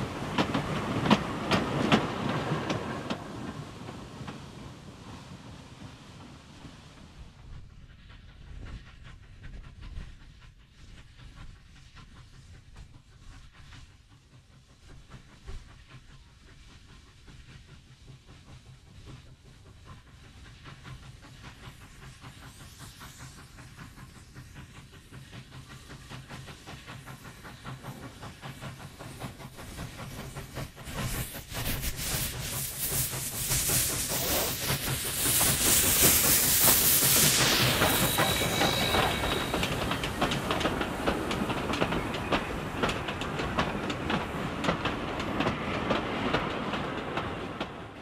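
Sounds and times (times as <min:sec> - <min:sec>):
steam hissing: 0:00.0 - 0:48.0
steam locomotive exhaust beats: 0:00.0 - 0:48.0.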